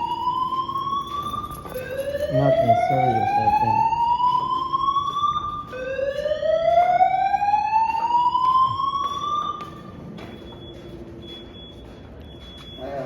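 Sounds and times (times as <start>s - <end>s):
fire alarm rising whoop: 0.0s - 10.6s.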